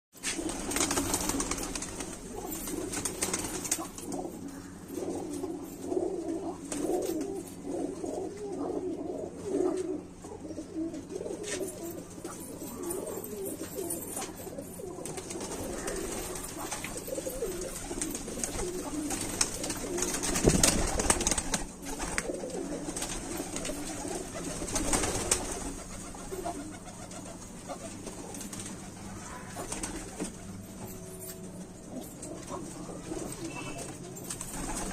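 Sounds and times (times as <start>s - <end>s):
rustle: 0.2s - 31.5s
pigeons cooing: 0.2s - 34.9s.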